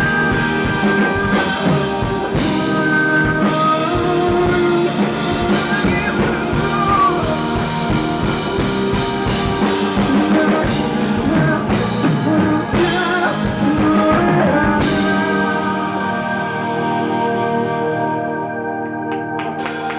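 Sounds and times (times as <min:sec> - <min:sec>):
rock band playing live: 0:00.0 - 0:19.9.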